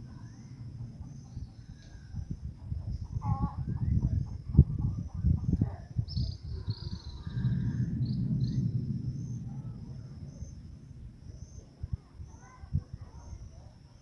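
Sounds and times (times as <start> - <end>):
low rumbling: 0.0 - 13.5
crickets trilling: 0.0 - 14.0.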